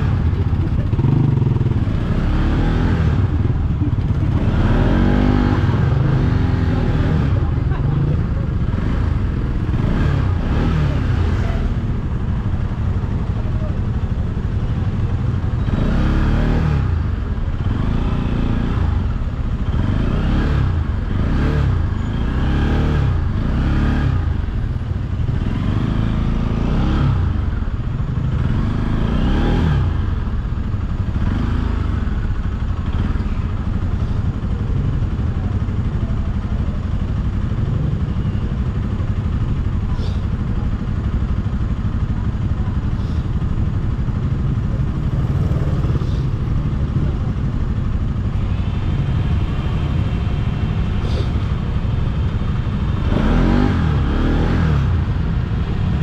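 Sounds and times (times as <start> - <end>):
constant low rumble: 0.0 - 22.3, 22.9 - 56.0
motorcycle engine revving: 0.0 - 56.0.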